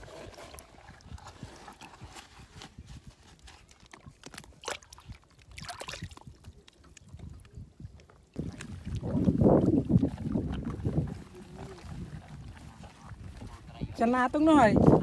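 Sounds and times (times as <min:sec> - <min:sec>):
wind rumble on microphone: 0:00.0 - 0:03.7, 0:05.0 - 0:15.0.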